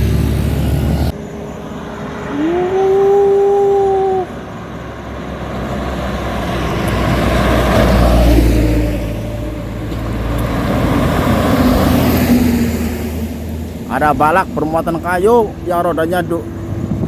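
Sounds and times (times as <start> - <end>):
heavy vehicle engine rumble: 0.0 - 17.0
highway traffic passing: 0.0 - 17.0.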